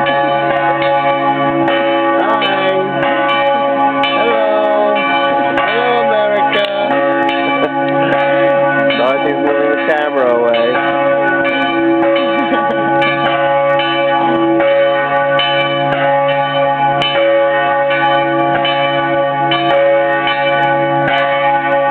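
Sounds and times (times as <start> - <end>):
church bells pealing: 0.0 - 21.9.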